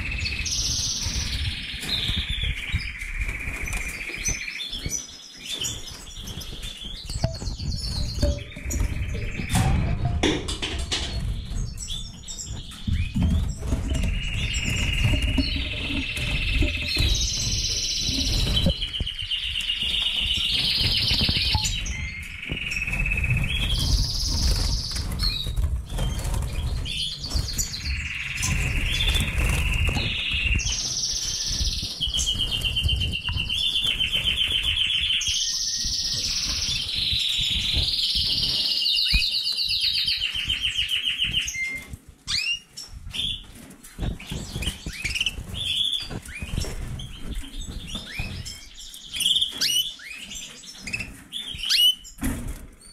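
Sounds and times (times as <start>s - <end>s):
canaries and finches singing trills: 0.0s - 52.9s.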